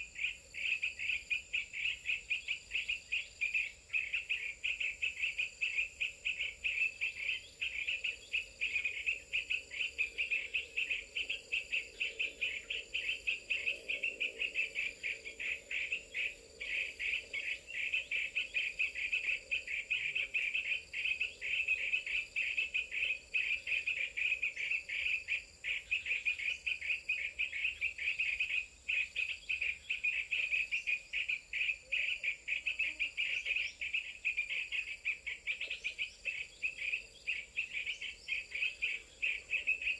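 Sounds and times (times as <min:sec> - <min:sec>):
bird calls: 0:00.0 - 0:39.9
insect-like chirring trill: 0:00.0 - 0:39.9.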